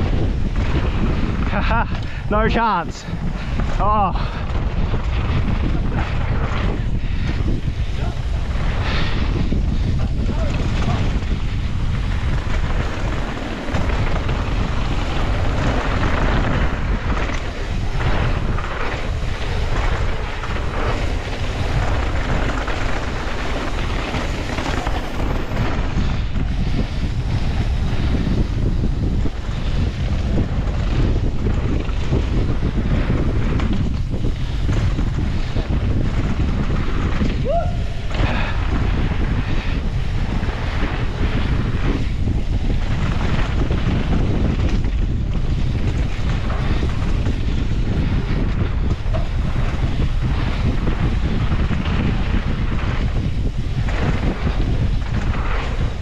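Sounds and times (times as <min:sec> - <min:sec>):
low rumble of bike ride: 0:00.0 - 0:56.0
wind buffeting microphone: 0:00.0 - 0:56.0.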